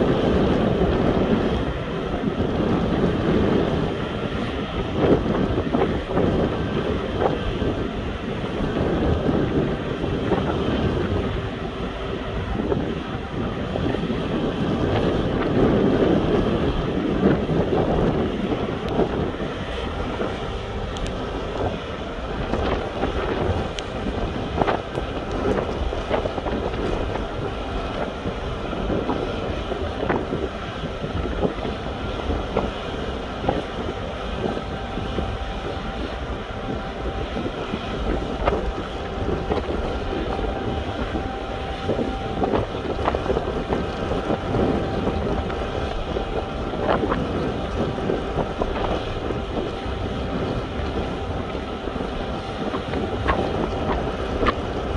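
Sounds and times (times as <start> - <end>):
faint steady whine: 0.0 - 54.9
ship machinery din: 0.0 - 54.9
wind on microphone: 0.0 - 54.9.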